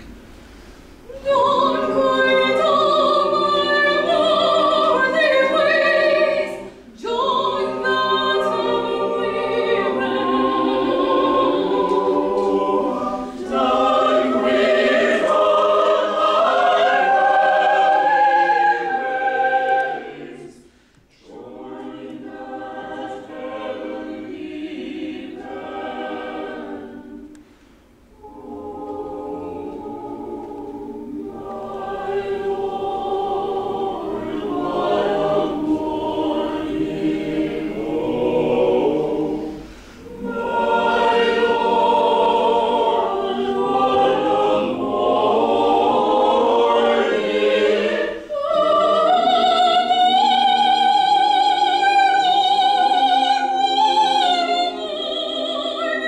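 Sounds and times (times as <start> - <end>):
mixed choir singing: 1.0 - 56.0.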